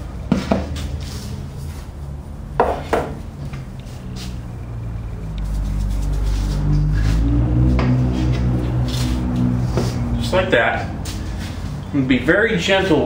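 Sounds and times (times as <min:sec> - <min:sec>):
low steady hum: 0:01.0 - 0:13.0.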